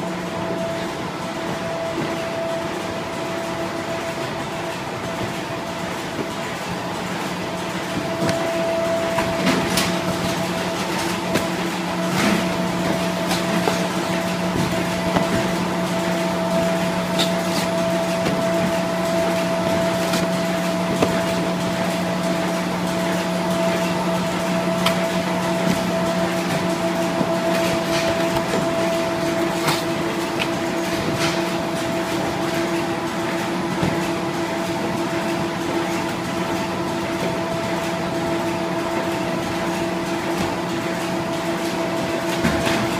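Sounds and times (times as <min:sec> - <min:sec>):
machine hum: 0:00.0 - 0:42.9.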